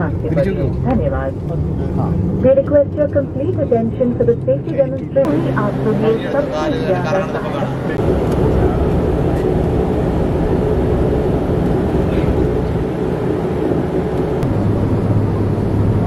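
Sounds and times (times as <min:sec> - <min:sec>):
jet engines rushing: 0:00.0 - 0:16.0
steady cabin hum: 0:00.0 - 0:16.0.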